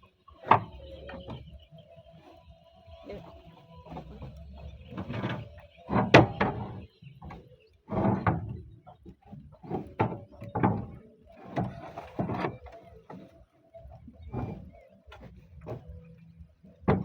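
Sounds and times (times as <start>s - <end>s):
roof sheets scraping and knocking: 3.0s - 17.0s.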